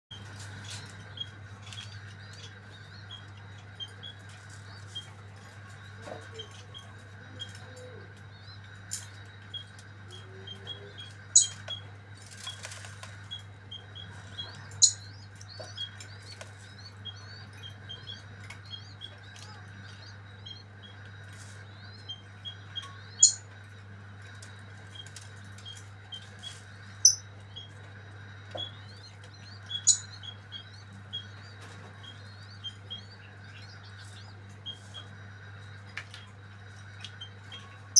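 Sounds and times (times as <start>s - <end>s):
bird chirping: 0.1s - 37.9s.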